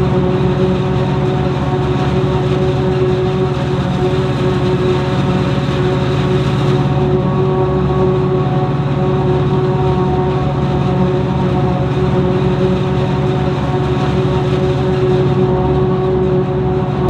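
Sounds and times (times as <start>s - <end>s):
engine drone: 0.0s - 17.0s
steady whine: 0.0s - 17.0s.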